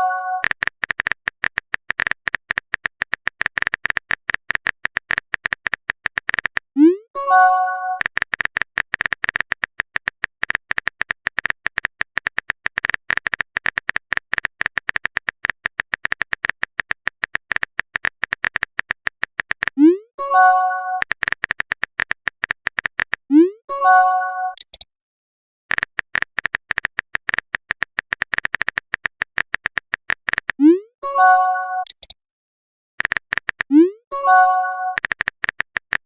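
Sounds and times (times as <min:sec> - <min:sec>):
phone keyboard typing clicks: 0:00.0 - 0:06.7, 0:07.4 - 0:19.8, 0:20.4 - 0:23.3, 0:24.5 - 0:24.9, 0:25.7 - 0:30.7, 0:31.8 - 0:32.2, 0:33.0 - 0:36.0.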